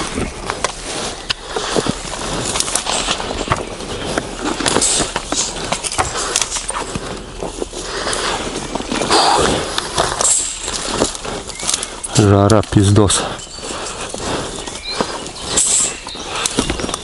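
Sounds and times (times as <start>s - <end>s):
footsteps through forest brush: 0.0s - 17.0s
twigs cracking underfoot: 0.0s - 17.0s.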